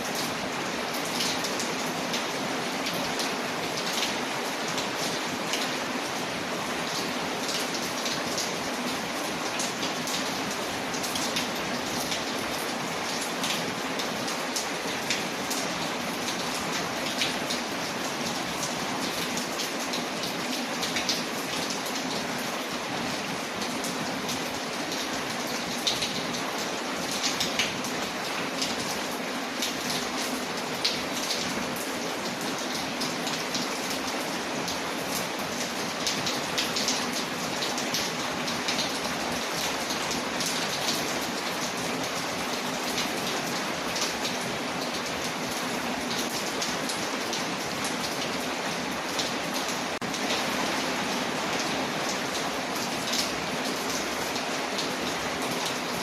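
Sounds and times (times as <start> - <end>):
rain on a window: 0.0 - 56.0.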